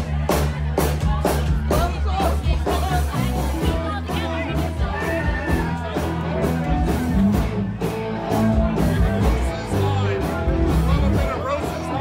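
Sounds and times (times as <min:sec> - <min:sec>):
guitar: 0:00.0 - 0:12.0
rock song: 0:00.0 - 0:12.0.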